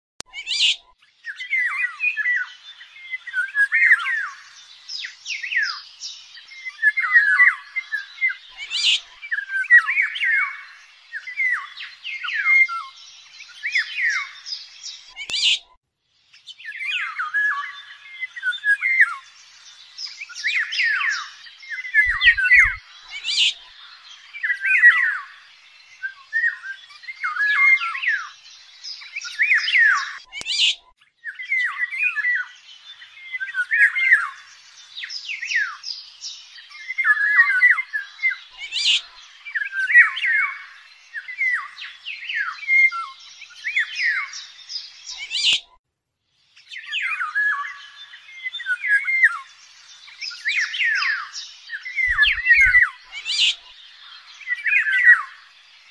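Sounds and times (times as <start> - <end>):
birds whistling and chirping: 0.3 - 45.8, 46.6 - 55.9.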